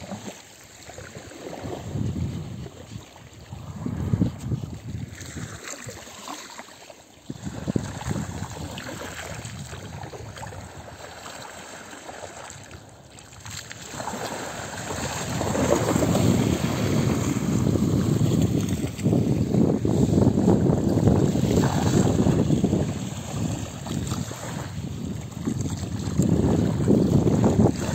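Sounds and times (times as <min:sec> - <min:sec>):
sea waves washing on shore: 0:00.0 - 0:27.9
wind buffeting microphone: 0:01.5 - 0:05.6, 0:07.3 - 0:11.2, 0:12.6 - 0:27.9.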